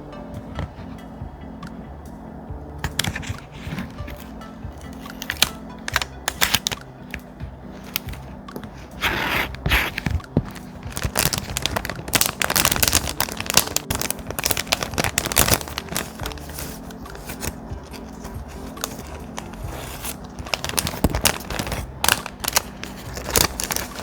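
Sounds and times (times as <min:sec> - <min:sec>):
paper crackling: 0:02.8 - 0:24.0
paper rustling: 0:02.8 - 0:24.0
thick paper crinkling and scraping: 0:02.8 - 0:24.0.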